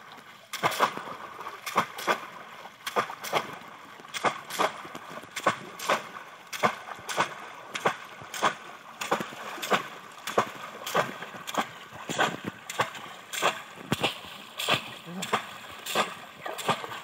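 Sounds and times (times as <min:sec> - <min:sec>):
fish traps splashing into water: 0:00.0 - 0:17.0.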